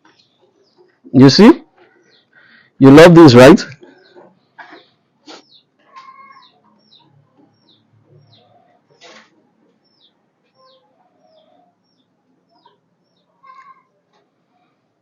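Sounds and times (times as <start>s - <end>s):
faint bird chirping: 0.0s - 2.8s, 3.8s - 15.0s.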